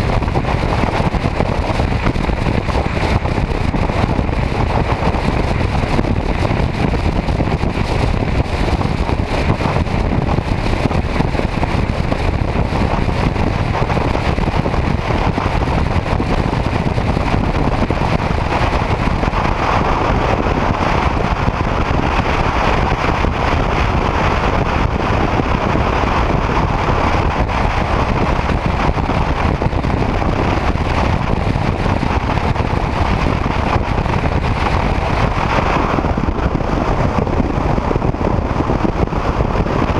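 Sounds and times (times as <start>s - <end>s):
motorcycle cruising: 0.0s - 39.9s
wind rush on microphone: 0.0s - 39.9s.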